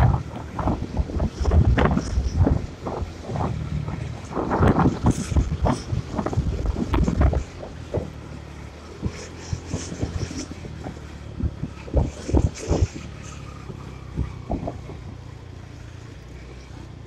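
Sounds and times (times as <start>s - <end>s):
motorcycle engine: 0.0s - 17.0s
tyres on road: 0.0s - 17.0s
wind buffeting microphone: 0.0s - 17.0s.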